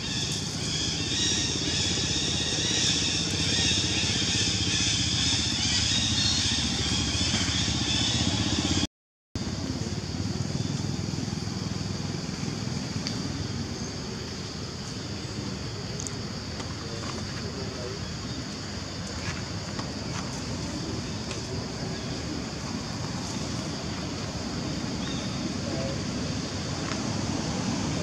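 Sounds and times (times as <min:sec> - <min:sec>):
low engine-like rumble: 0:00.0 - 0:28.0.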